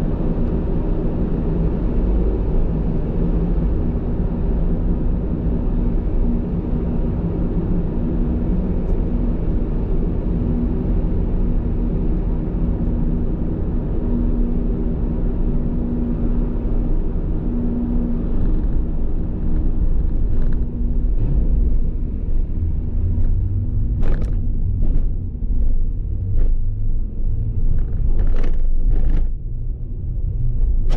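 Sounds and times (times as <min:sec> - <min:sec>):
engine rumble: 0:00.0 - 0:30.9.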